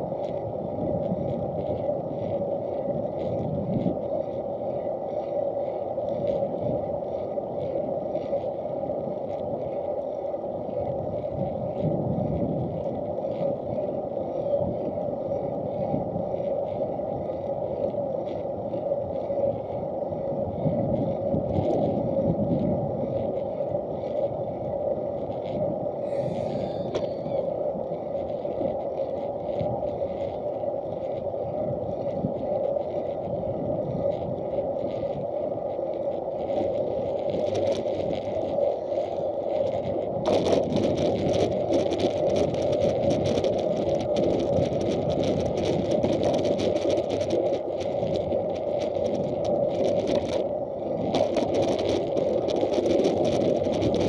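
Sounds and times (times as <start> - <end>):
bicycle rolling and wind noise: 0.0 - 54.0
hissy rattle on rough surface: 0.0 - 54.0.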